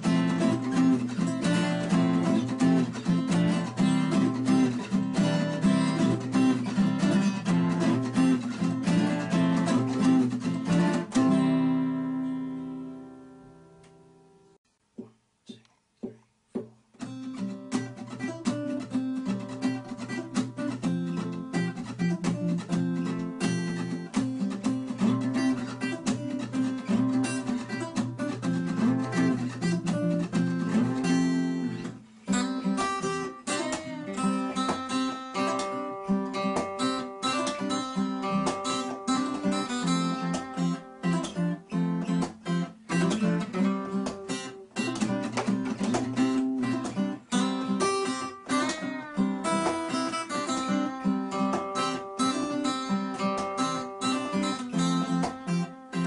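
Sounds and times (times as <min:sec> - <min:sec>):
acoustic guitar music: 0:00.0 - 0:56.0.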